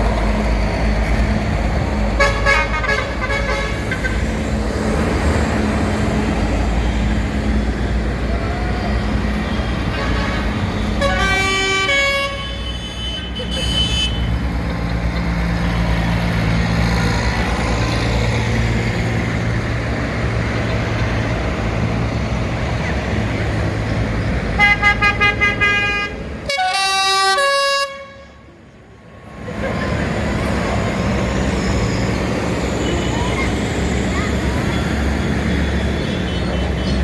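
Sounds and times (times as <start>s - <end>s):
tractor diesel engines rumbling: 0.0s - 37.0s.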